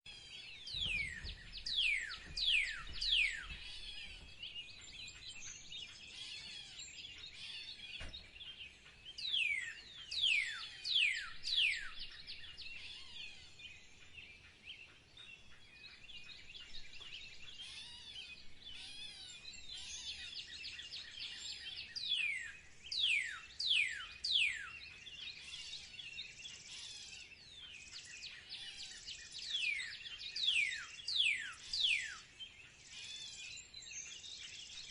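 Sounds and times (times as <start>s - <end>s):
chorus of bird chirps: 0.1s - 34.9s.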